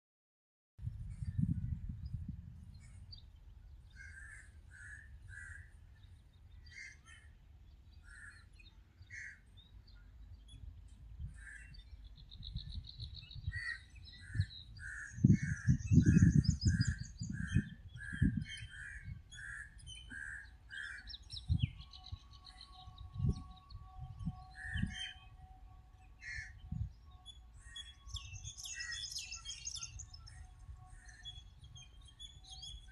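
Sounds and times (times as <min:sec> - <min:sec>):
small birds chirping: 0:02.8 - 0:32.9.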